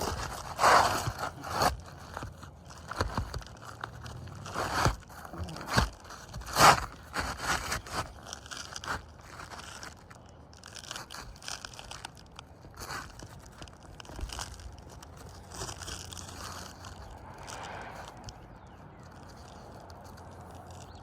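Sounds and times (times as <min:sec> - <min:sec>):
scraping of roof shingles: 0:00.0 - 0:21.0.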